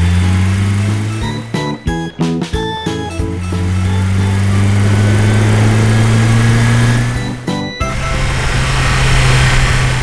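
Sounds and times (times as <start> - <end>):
music with plucked notes: 0.0 - 8.6
background music: 0.0 - 10.0
cartoon truck engine hum: 0.0 - 10.0.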